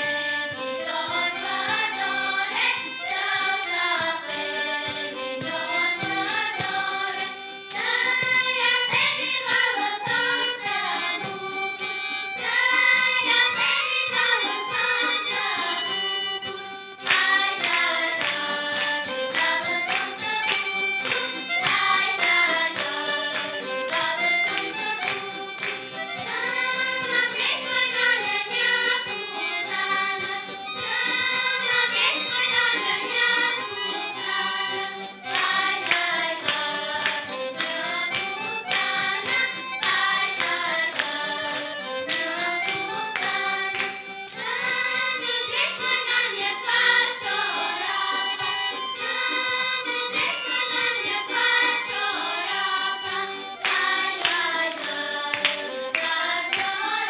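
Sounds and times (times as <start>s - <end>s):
girls singing folk song: 0.0s - 57.0s
instrumental accompaniment: 0.0s - 57.0s.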